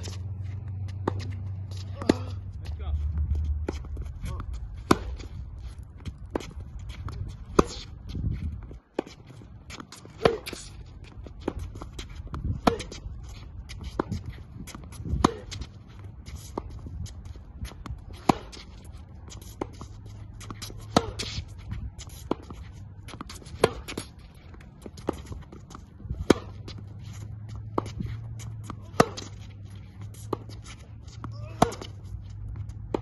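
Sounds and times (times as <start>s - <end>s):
racket hitting tennis ball: 0.0s - 33.0s
tennis ball bounces: 0.0s - 33.0s.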